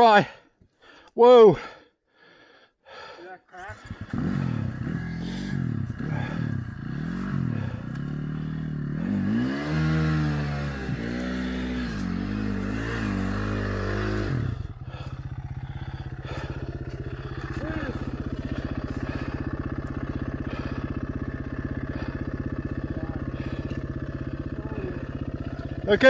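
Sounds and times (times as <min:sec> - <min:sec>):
dirt bike engine idling: 0:02.4 - 0:26.0
dirt bike engine revving: 0:03.6 - 0:26.0.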